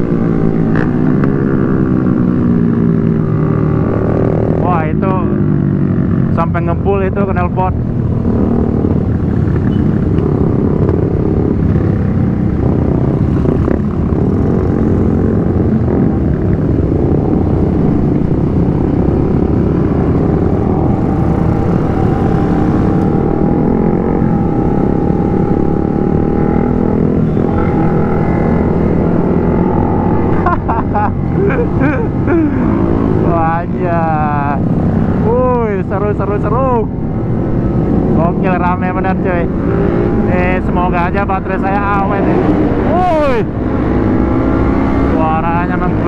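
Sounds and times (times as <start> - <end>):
motorcycle engines running: 0.0 - 46.0
wind and road noise: 0.0 - 46.0.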